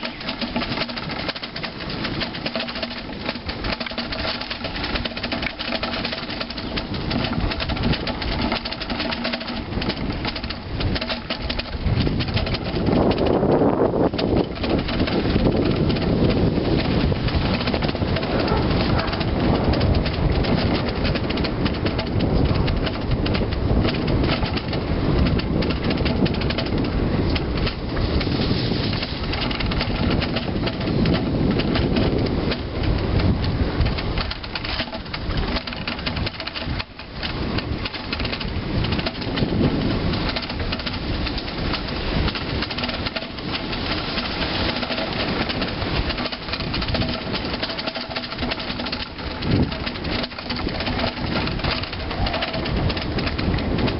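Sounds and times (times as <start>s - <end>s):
bicycle rattling over concrete: 0.0s - 53.9s
wind buffeting microphone: 0.0s - 53.9s.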